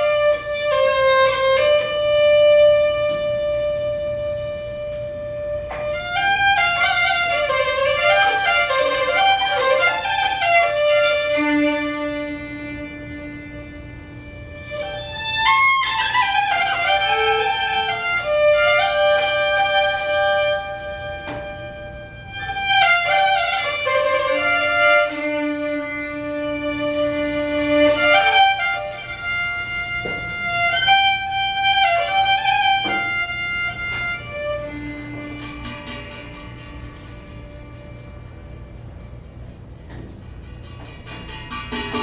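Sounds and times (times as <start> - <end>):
bowed string instrument: 0.0 - 42.0.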